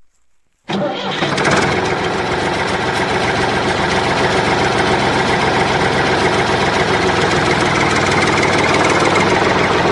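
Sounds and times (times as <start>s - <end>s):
tractor engine idling: 0.7s - 9.9s.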